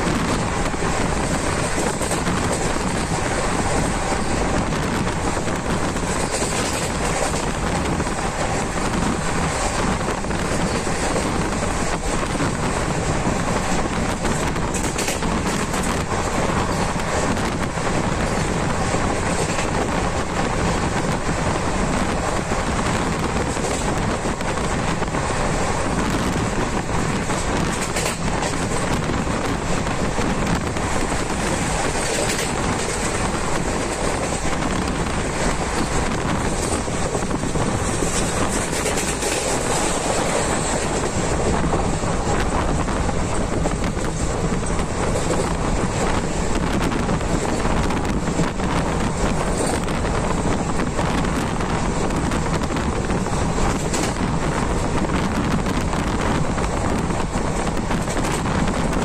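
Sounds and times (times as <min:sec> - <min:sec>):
moving train running noise: 0:00.0 - 0:59.0
wind rushing over microphone: 0:00.0 - 0:59.0.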